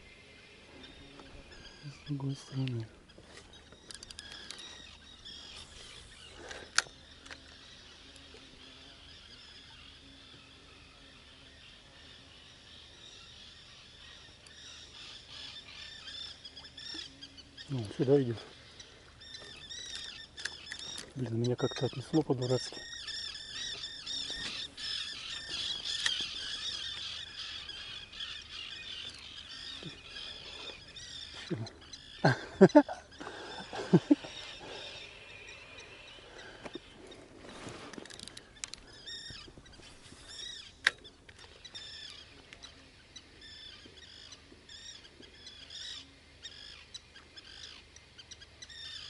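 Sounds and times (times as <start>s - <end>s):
chorus of birds calling: 0.0s - 49.0s.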